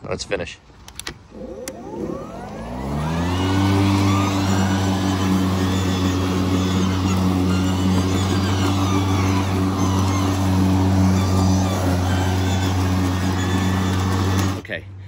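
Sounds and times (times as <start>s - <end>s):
electric lawnmower whine and hum: 0.8s - 14.7s.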